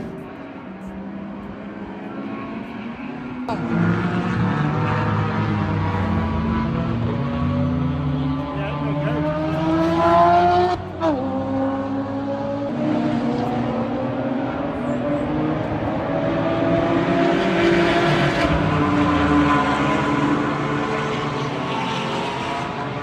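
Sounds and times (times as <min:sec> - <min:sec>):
racing car engine: 0:00.0 - 0:23.0.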